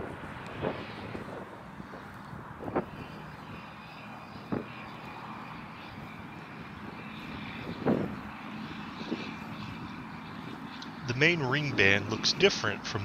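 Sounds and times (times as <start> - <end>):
steady low drone: 0.0 - 13.0.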